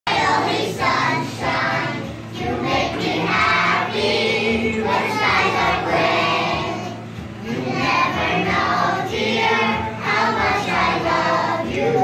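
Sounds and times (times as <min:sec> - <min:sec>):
children singing together: 0:00.1 - 0:12.0
music: 0:00.1 - 0:12.0.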